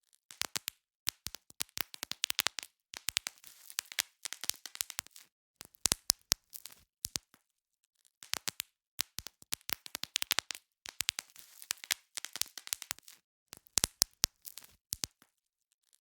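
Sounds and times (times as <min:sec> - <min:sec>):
bubble wrap popping: 0:00.3 - 0:07.4, 0:08.2 - 0:15.3.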